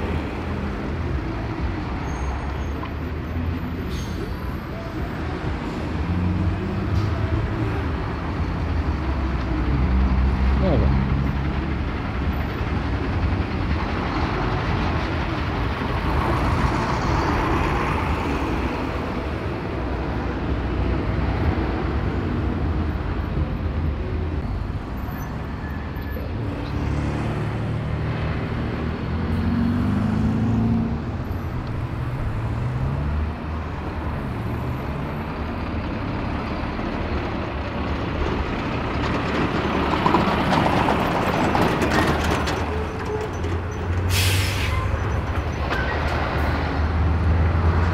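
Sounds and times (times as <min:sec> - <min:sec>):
road traffic rumbling past: 0:00.0 - 0:47.9.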